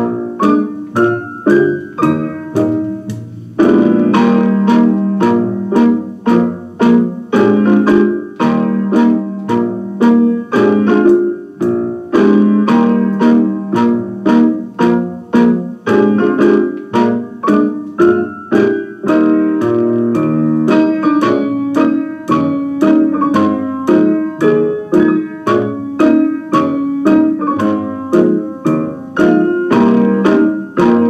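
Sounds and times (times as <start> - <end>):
bouncy piano music: 0.0 - 31.0.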